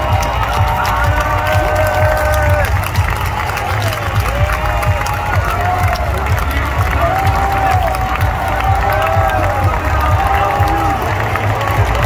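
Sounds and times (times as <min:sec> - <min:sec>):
stadium crowd cheering: 0:00.0 - 0:12.0.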